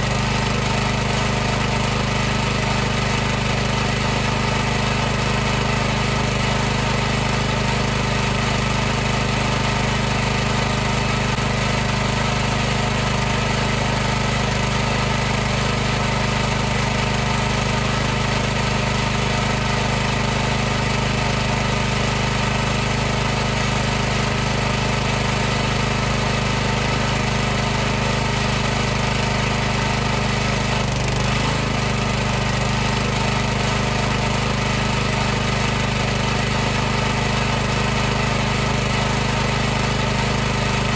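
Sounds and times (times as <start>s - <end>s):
pressure washer running: 0.0s - 40.9s.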